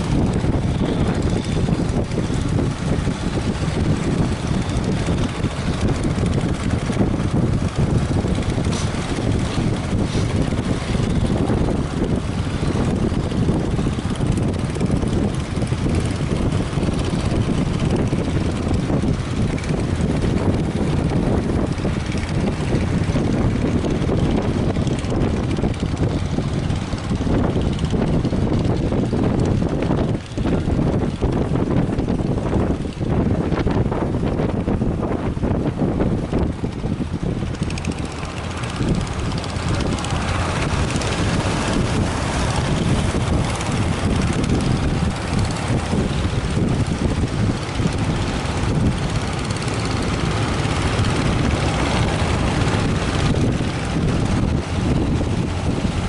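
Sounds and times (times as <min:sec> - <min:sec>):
surf rumbling: 0:00.0 - 0:56.0
wind blowing across microphone: 0:00.0 - 0:56.0.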